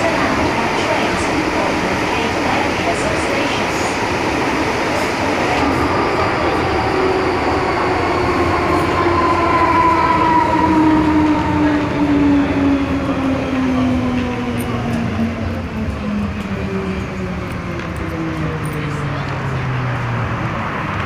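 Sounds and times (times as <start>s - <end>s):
metro train rumbling in tunnel: 0.0s - 21.0s.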